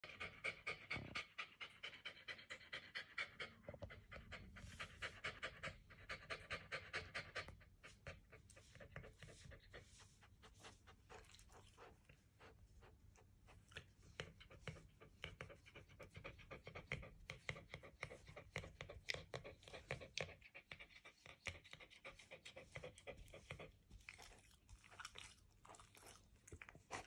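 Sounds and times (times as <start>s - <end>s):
dog panting: 0.0s - 25.2s.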